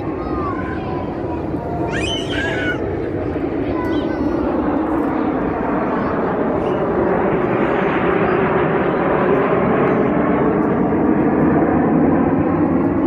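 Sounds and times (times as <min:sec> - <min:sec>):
jet aircraft flying past: 0:00.0 - 0:13.0.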